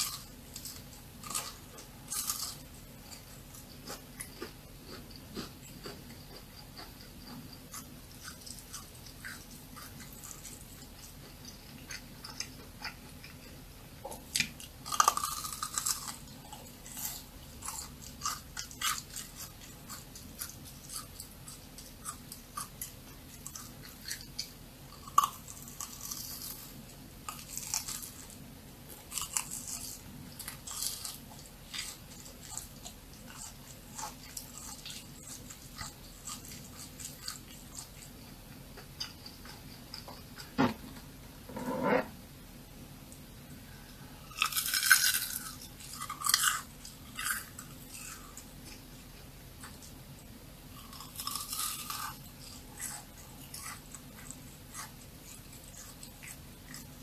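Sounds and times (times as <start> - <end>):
crunchy chewing: 0.0 - 40.9, 43.7 - 57.0.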